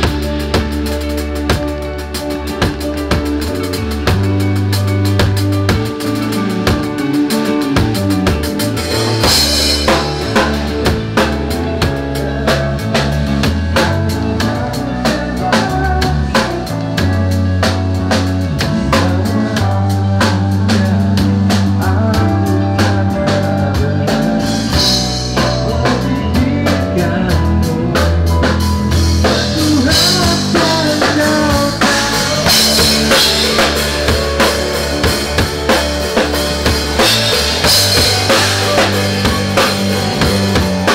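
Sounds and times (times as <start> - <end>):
drum kit steady beat: 0.0 - 40.9
sustained bass notes: 0.0 - 40.9.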